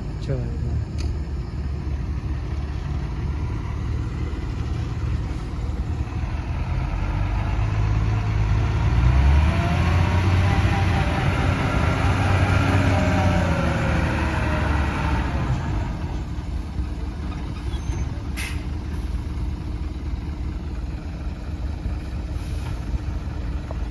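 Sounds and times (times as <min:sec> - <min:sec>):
diesel engine rumbling: 0:00.0 - 0:23.9.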